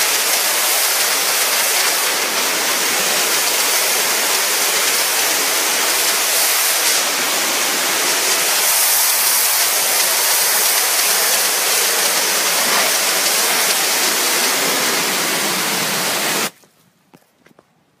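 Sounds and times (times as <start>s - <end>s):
pressure washer spraying water: 0.0s - 16.5s.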